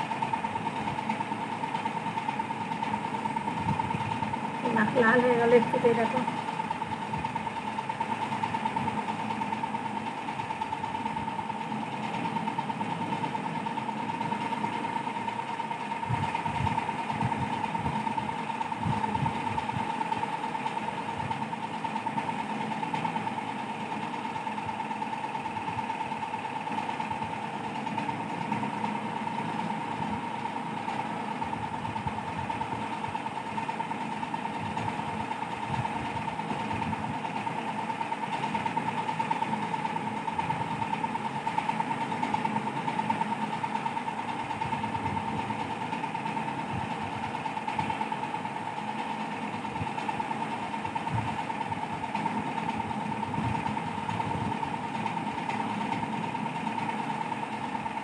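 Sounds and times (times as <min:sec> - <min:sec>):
motor-like hum with high whine: 0:00.0 - 0:58.0.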